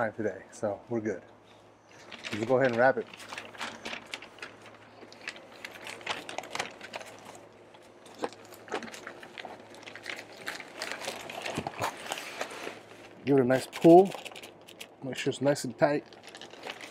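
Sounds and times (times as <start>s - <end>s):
paper crinkling and rustling: 1.9s - 16.9s.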